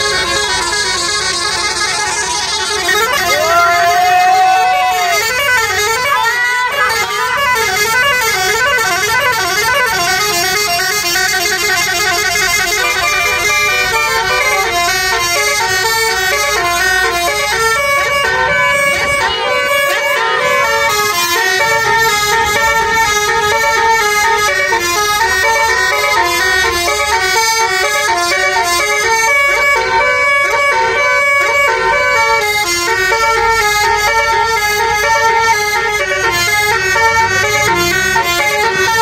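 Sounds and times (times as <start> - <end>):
multi-tone bus horn tune: 0.0 - 39.0.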